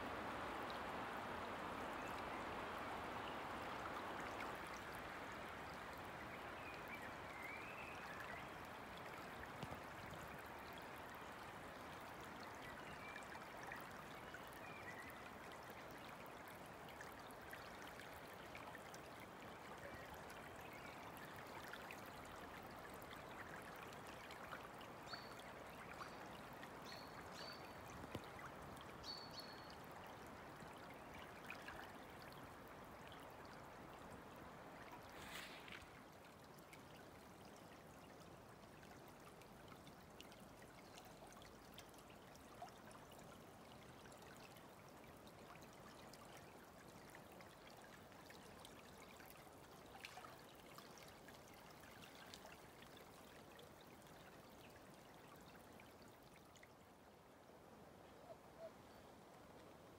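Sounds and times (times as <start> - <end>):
floodwater flowing: 0.0 - 57.1.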